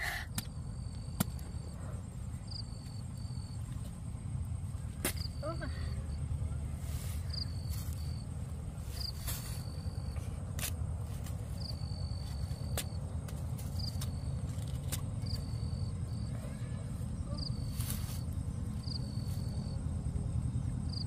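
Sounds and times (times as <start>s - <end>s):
insect chirping and whistling: 0.0s - 10.3s, 11.5s - 13.1s, 13.7s - 16.4s, 17.0s - 21.0s.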